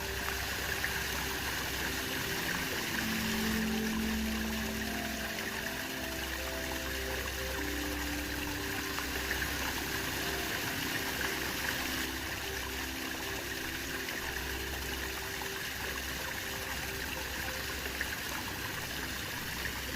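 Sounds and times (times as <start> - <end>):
soft sustained music notes: 0.0 - 19.9
waterfall rushing: 0.0 - 19.9.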